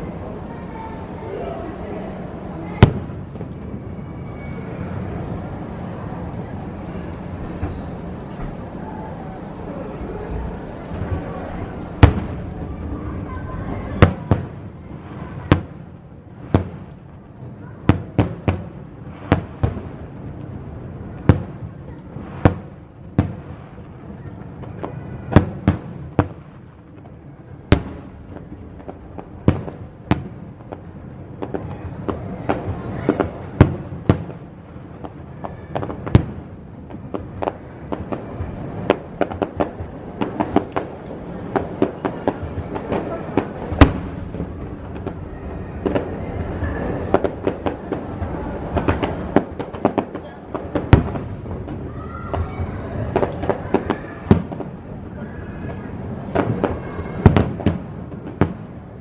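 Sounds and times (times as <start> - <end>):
fireworks booming: 0.0 - 59.0.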